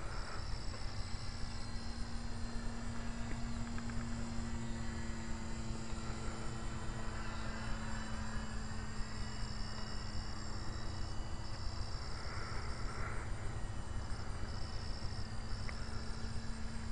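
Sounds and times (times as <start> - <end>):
model plane motor humming: 0.0 - 16.9.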